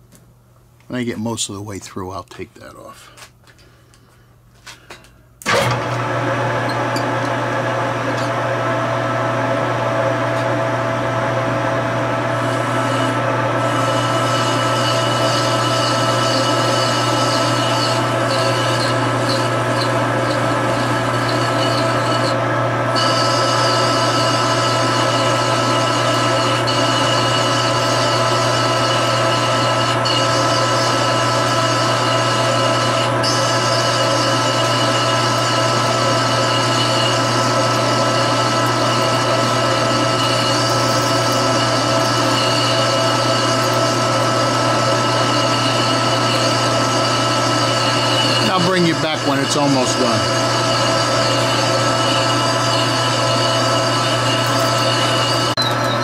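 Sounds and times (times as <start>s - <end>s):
metal lathe motor hum: 5.4s - 56.0s.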